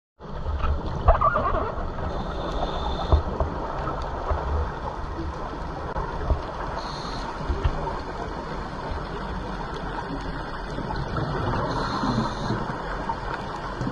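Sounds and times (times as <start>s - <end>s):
underwater rumble and gurgling: 0.2s - 13.9s.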